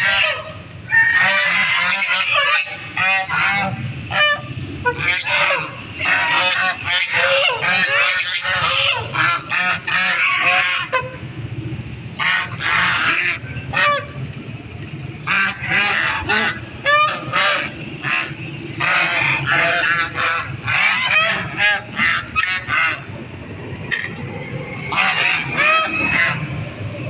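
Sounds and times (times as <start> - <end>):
ducks quacking: 0.0 - 11.2, 12.1 - 14.3, 15.2 - 23.3, 24.8 - 26.6.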